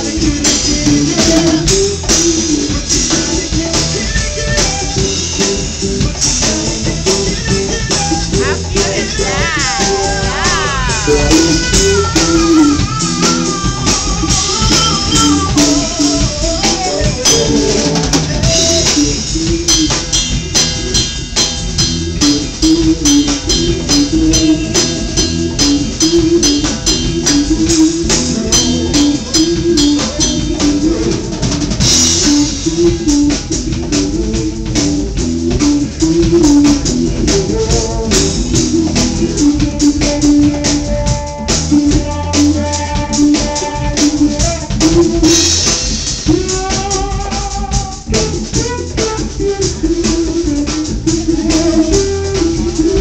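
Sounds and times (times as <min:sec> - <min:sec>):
congas: 0:00.0 - 0:53.0
drum kit: 0:00.0 - 0:53.0
electric bass: 0:00.0 - 0:53.0
lap steel guitar melody: 0:00.0 - 0:53.0.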